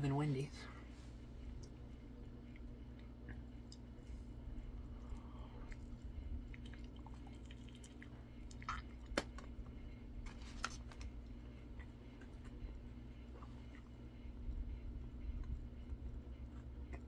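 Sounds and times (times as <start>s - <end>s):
steady low hum: 0.0s - 17.0s
person chewing food: 1.4s - 17.0s.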